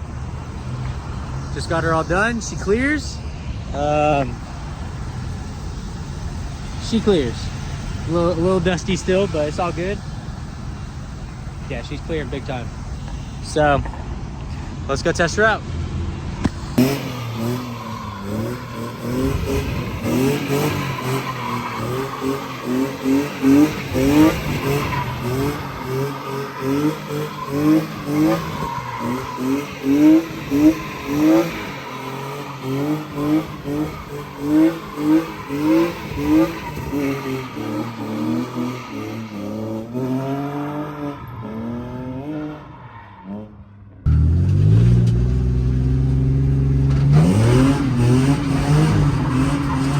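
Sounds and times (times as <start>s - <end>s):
car engine revving: 0.0s - 49.9s
tyres skidding and squealing: 0.0s - 49.9s.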